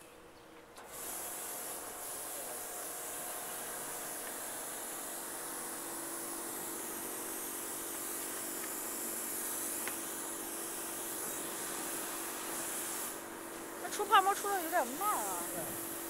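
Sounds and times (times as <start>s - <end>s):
spray wand hissing: 0.9s - 16.0s.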